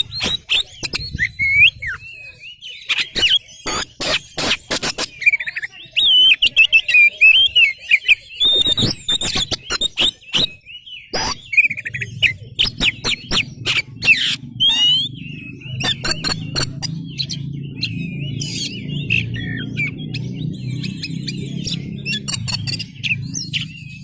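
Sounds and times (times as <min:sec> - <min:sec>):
bird singing whistles and clicks: 0:00.0 - 0:24.0.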